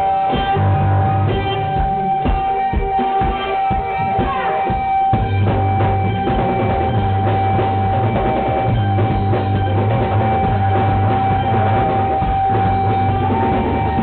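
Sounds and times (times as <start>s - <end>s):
drum kit: 0.0s - 14.0s
electric bass guitar: 0.0s - 14.0s.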